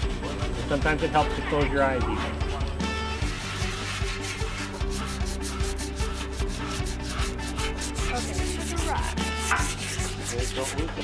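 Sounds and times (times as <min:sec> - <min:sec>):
sandpaper rubbing on steel: 0:00.0 - 0:11.0.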